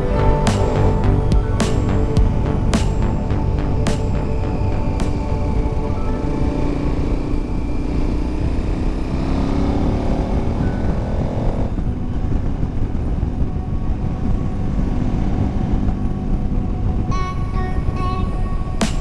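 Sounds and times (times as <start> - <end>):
wind and road noise: 0.0 - 18.4.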